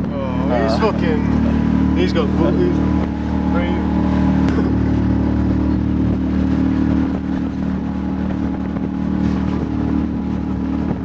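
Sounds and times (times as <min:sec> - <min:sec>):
motorboat engine running: 0:00.0 - 0:11.0
water rushing: 0:00.0 - 0:11.0
wind: 0:00.0 - 0:11.0.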